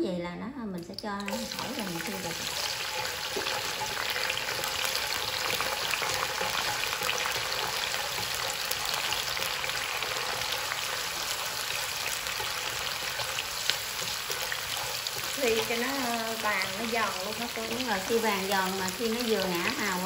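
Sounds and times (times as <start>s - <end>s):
garlic sizzling in hot oil: 0.8s - 20.0s.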